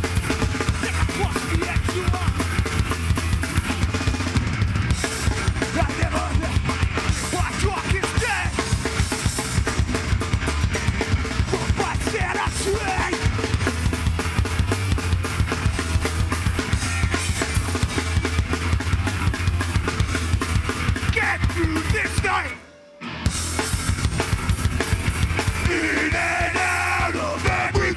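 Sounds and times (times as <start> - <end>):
heavy metal band playing: 0.0 - 27.9.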